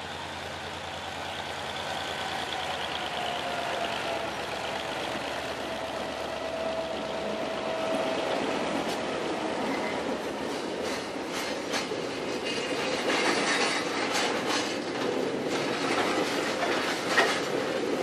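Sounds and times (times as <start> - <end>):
diesel locomotive engine running: 0.0 - 18.0
rumble of freight cars rolling: 0.0 - 18.0.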